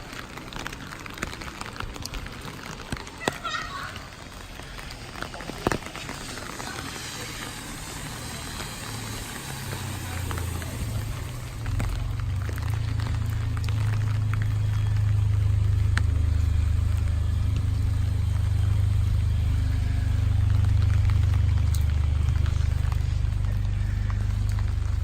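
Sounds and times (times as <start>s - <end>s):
light drip ticks: 0.0s - 25.0s
rain falling: 0.0s - 25.0s
steady low rumble: 4.0s - 25.0s.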